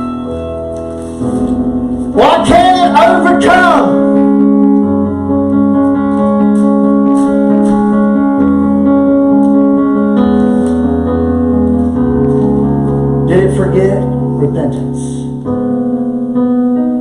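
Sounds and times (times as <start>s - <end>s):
keyboard playing sustained chords: 0.0s - 17.0s.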